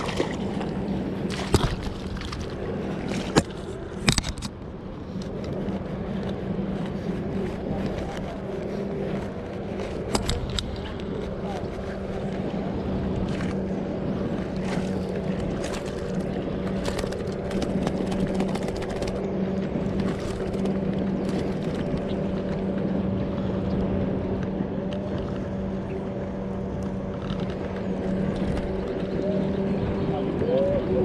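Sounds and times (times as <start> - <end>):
steady motor hum: 0.0 - 31.0
water noise: 0.0 - 31.0.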